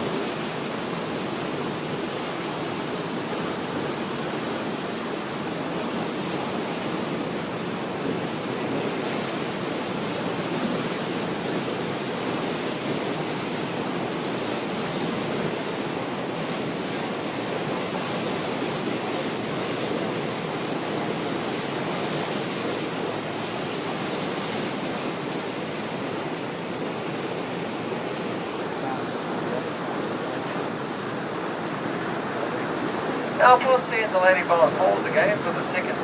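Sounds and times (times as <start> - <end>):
rushing falling water: 0.0 - 36.0.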